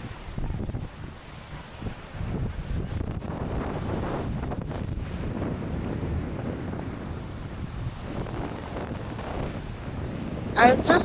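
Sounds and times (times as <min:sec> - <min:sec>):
sea surf: 0:00.0 - 0:11.0
wind buffeting microphone: 0:00.0 - 0:11.0.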